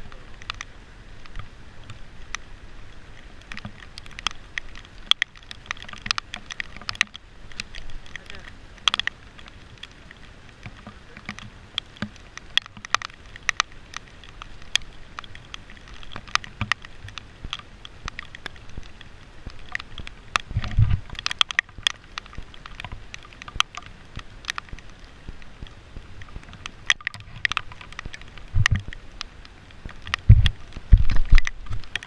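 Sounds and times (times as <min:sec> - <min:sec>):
raindrops ticking on surface: 0:00.0 - 0:32.0
steady hiss of rain: 0:00.0 - 0:32.0.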